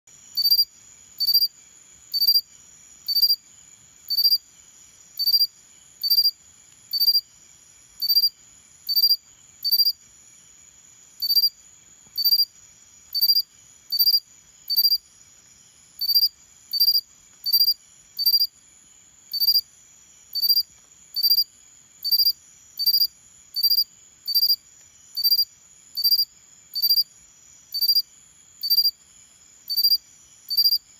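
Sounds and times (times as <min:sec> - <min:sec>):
cricket chirping: 0:00.1 - 0:30.9.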